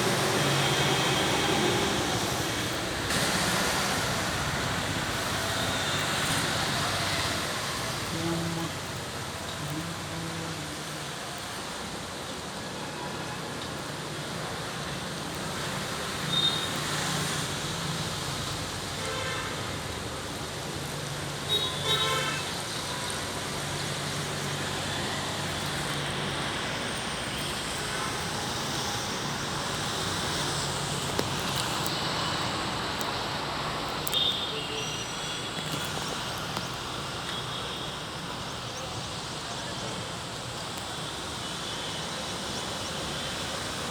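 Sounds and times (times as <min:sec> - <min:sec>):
traffic hissing on wet road: 0:00.0 - 0:43.9.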